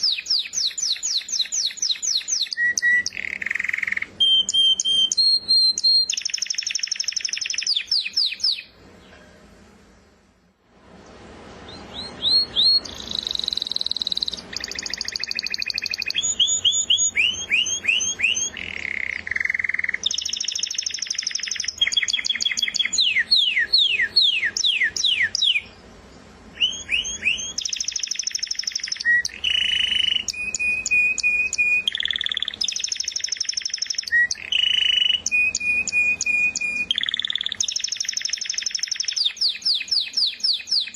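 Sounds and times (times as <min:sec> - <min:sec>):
canary singing: 0:00.0 - 0:09.2, 0:11.6 - 0:40.9.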